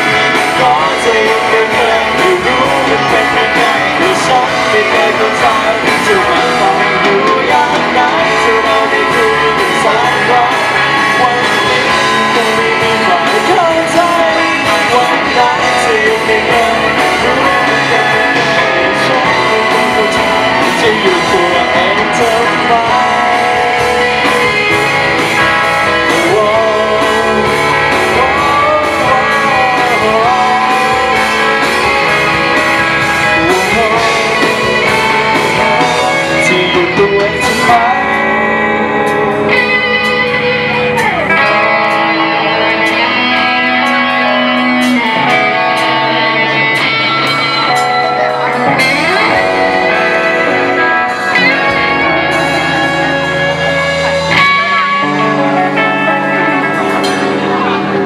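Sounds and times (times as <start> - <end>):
live pop-rock band: 0.0 - 58.0
man singing lead: 0.0 - 58.0.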